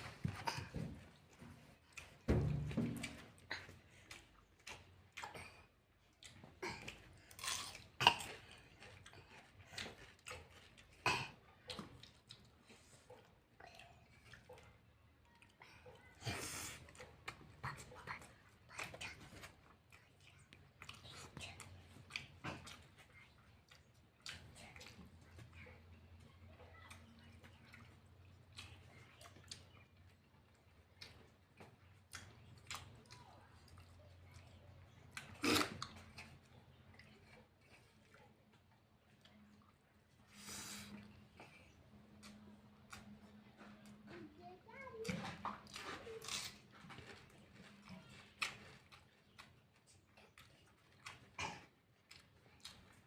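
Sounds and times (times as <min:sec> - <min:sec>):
wet chewing and lip-smacking: 0:00.0 - 0:44.1, 0:44.9 - 0:53.0.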